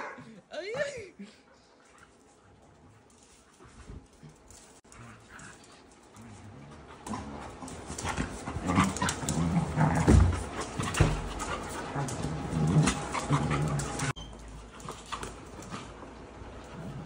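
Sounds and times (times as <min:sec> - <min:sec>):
dogs panting: 0:01.2 - 0:17.0
dogs making low vocal sounds: 0:01.8 - 0:17.0
dogs scuffling: 0:01.8 - 0:17.0.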